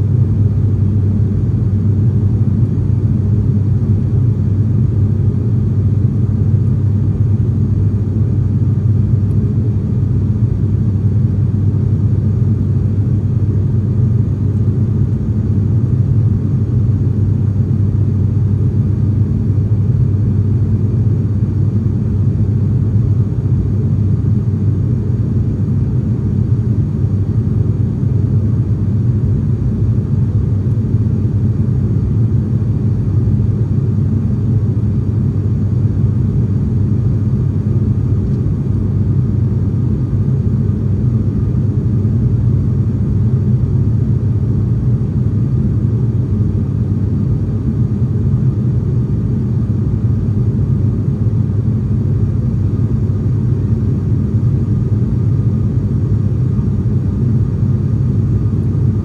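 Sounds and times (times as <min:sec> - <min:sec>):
turboprop engine drone in cabin: 0:00.0 - 0:59.0.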